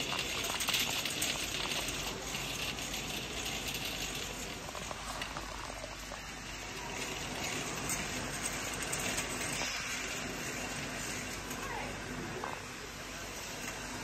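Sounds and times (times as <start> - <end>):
shopping cart rattling and clinking: 0.0 - 11.7.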